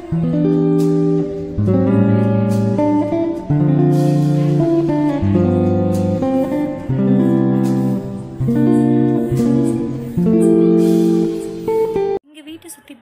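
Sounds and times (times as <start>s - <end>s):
sustained chords music: 0.0s - 12.2s.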